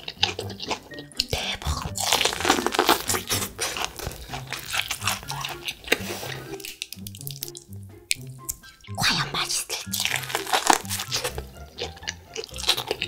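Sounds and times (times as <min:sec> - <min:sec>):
chewing corn on the cob: 0:00.0 - 0:13.0.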